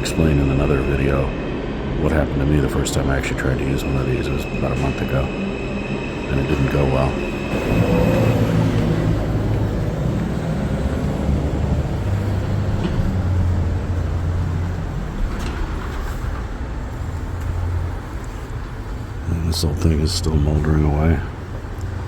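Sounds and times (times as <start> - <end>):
heavy vehicle rumbling: 0.0 - 22.0.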